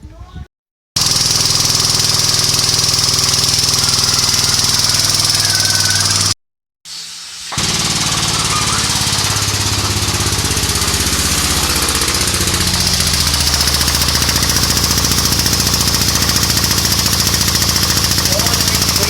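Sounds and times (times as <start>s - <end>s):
machine running with fast pulse: 1.0s - 6.4s, 7.6s - 19.0s.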